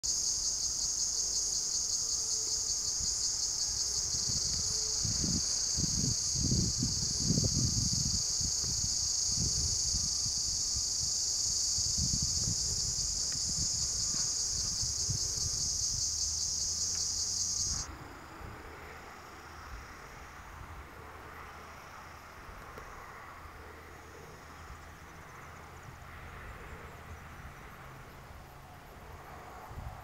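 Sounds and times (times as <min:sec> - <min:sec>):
insect chorus drone: 0:00.0 - 0:30.0
wind rumble on microphone: 0:02.5 - 0:21.4, 0:24.4 - 0:30.0.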